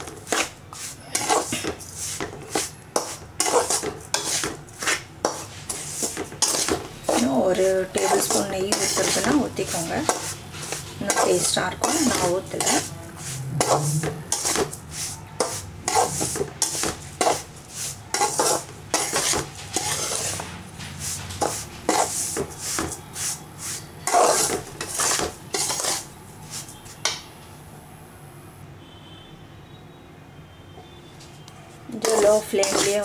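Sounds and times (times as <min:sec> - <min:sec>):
spatula scraping a pan: 0:00.0 - 0:27.1, 0:31.9 - 0:33.0.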